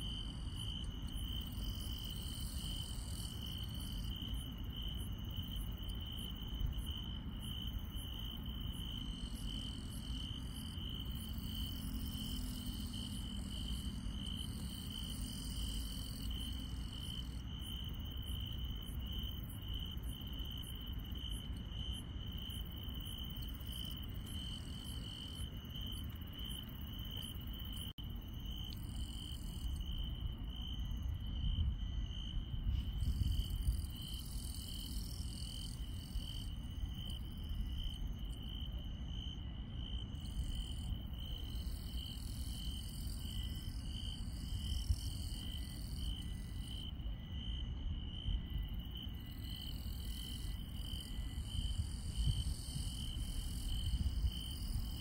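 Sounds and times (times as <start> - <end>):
steady pulsing cricket chirp: 0.0 - 55.0.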